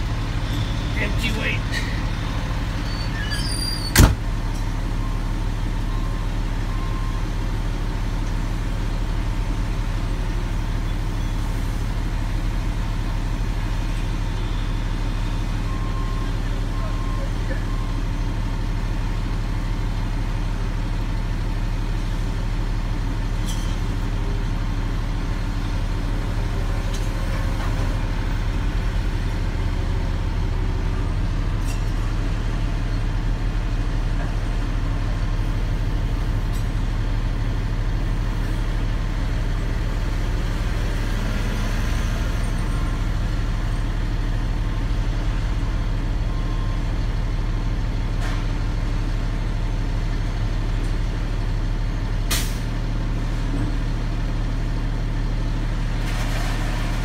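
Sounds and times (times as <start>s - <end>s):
truck diesel engine hum: 0.0s - 57.0s.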